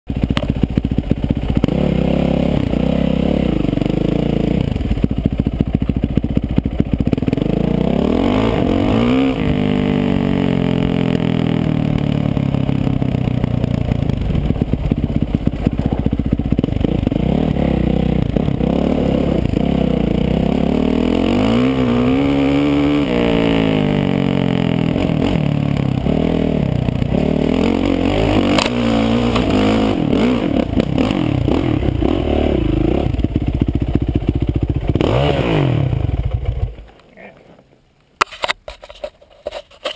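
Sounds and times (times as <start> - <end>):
dirt bike engine revving: 0.1 - 36.9.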